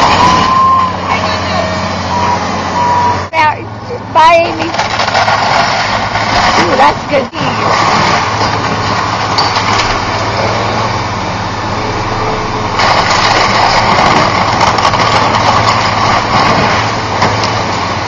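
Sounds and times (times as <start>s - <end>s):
heavy machinery engine running: 0.0s - 18.0s
loud rush of noise: 0.0s - 18.0s.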